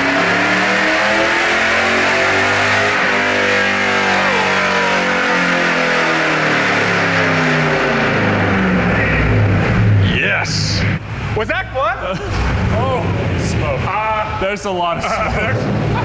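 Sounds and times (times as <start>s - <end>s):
car engine at full throttle: 0.0s - 16.0s.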